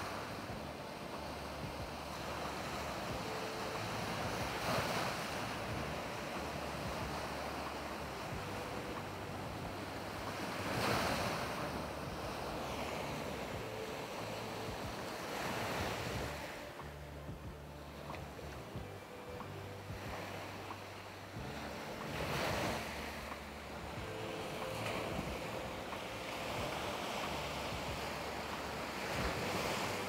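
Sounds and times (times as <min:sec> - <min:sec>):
sea waves breaking on beach: 0:00.0 - 0:30.0.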